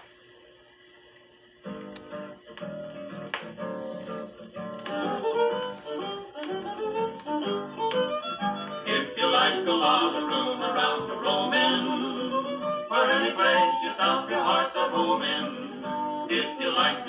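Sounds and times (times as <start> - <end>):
fiddle melody: 2.7 - 17.0.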